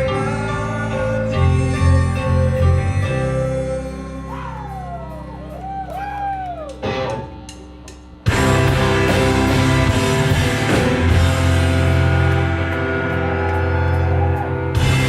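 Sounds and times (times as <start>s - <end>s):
bending guitar tones: 0.0s - 15.0s
rock band playing loud: 0.0s - 15.0s.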